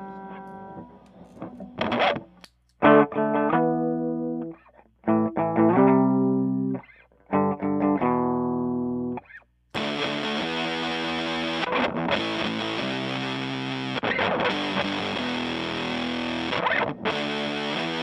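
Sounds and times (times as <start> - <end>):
fuzzed electric guitar: 0.0 - 18.0.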